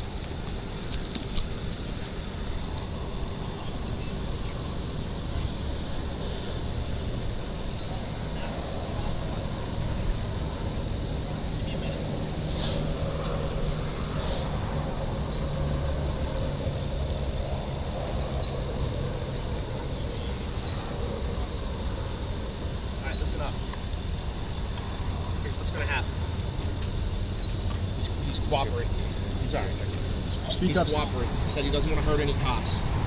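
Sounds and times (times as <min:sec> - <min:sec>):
faint insect chirps: 0:00.0 - 0:33.0
low outdoor rumble: 0:00.0 - 0:33.0.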